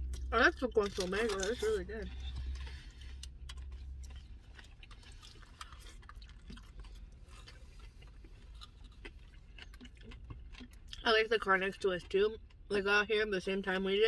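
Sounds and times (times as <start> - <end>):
quiet chewing: 0.0 - 12.7.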